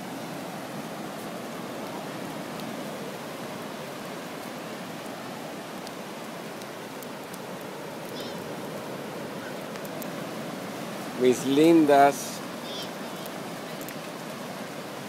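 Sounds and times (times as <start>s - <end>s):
ocean surf breaking on shore: 0.0s - 15.0s.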